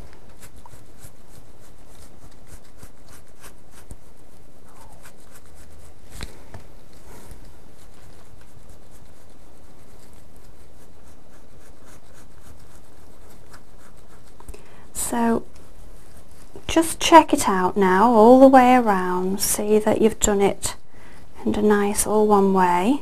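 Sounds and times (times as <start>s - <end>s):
background hum and hiss: 0.0s - 23.0s
paintbrush strokes on cloth: 0.0s - 23.0s.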